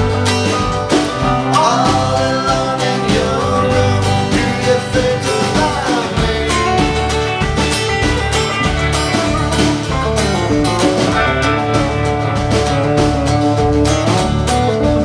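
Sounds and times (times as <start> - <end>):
country-rock band playing: 0.0 - 15.0.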